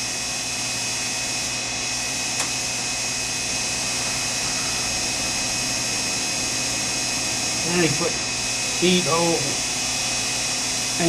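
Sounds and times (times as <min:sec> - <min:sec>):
grinder motor whine: 0:00.0 - 0:11.0.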